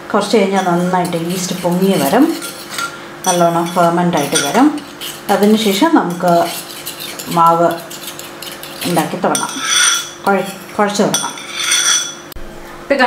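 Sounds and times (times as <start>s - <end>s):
spoon scraping ceramic bowl: 0.5s - 12.3s
spoon clinking against bowl: 0.6s - 12.3s.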